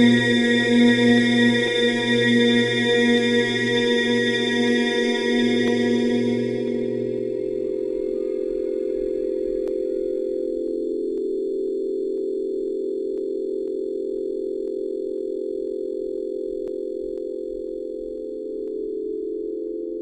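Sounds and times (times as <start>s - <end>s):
drone of pure tones: 0.0s - 20.0s.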